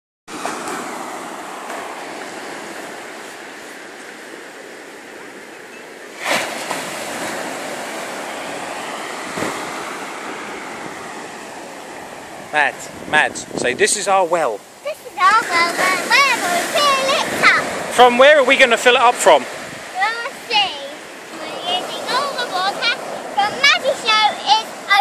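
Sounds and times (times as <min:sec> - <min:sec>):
waves washing up a shore: 0:00.3 - 0:25.0.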